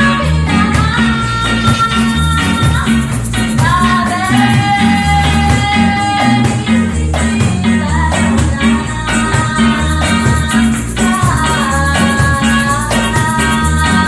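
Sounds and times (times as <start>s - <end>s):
live band playing reggae: 0.0s - 14.0s
repeating bass line: 0.0s - 14.0s
shaker rhythm: 0.0s - 14.0s.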